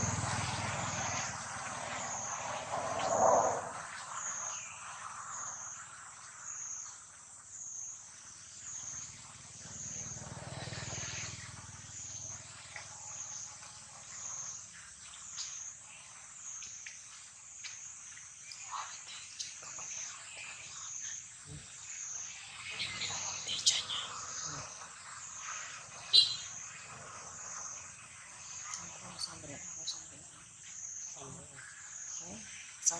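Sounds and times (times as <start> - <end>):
high-pitched insect chorus: 0.0 - 32.9.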